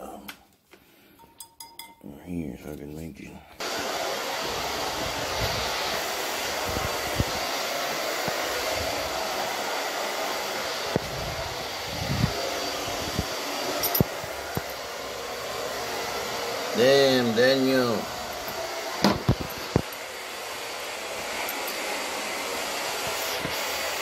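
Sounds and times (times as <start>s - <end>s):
air blower whooshing: 3.6s - 24.0s.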